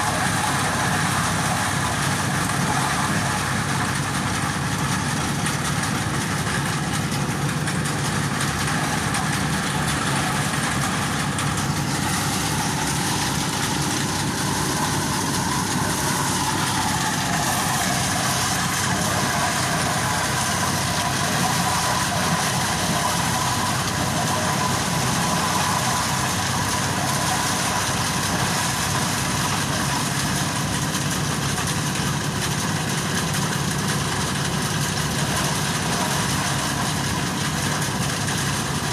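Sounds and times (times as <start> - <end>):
corn thresher running: 0.0 - 38.9.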